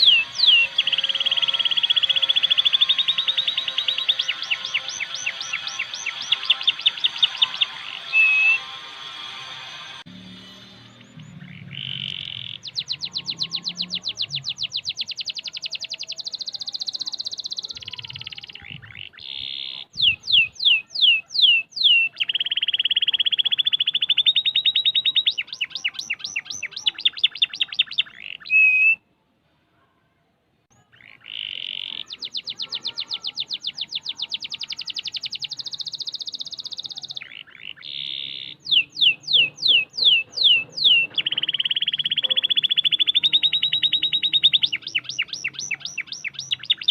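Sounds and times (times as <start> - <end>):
canary singing in trills: 0.0 - 29.1, 30.7 - 46.9.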